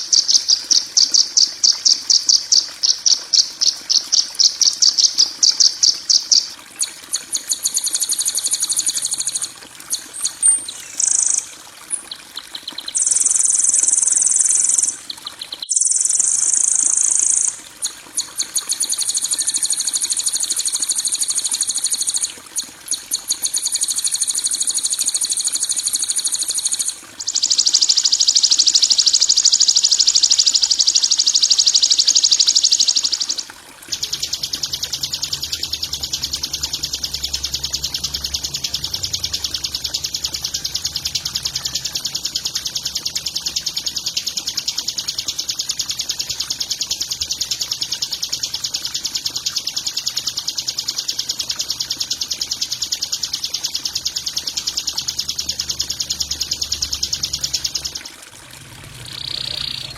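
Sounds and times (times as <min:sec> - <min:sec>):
songbird buzzy calls and rattles: 0:00.0 - 0:59.9.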